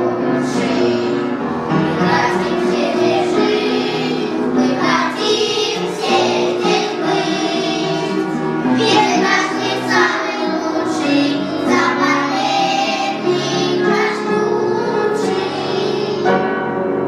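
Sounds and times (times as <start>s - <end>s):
children singing: 0.0s - 16.4s
musical accompaniment: 0.0s - 17.0s.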